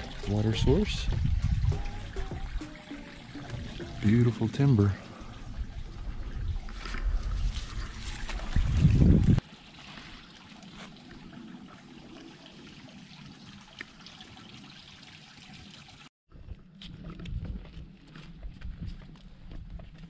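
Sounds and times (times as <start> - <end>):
stream trickling: 0.0 - 16.1.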